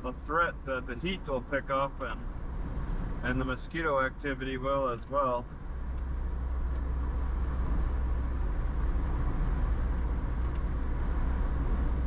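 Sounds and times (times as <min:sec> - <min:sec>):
tyre and wind hiss: 0:00.0 - 0:12.0
vehicle road noise drone: 0:00.0 - 0:12.0.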